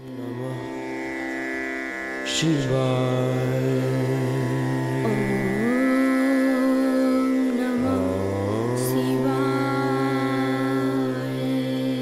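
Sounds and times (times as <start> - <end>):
steady drone: 0.0 - 12.0
mantra-like chant: 2.3 - 12.0.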